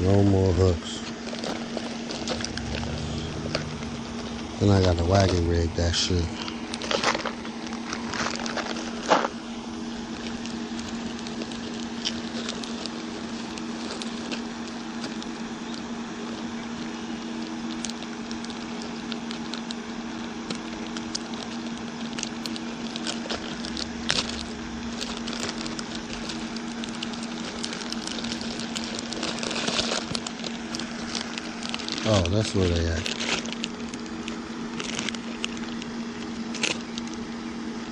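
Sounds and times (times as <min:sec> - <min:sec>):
low motor hum: 0:01.4 - 0:37.9.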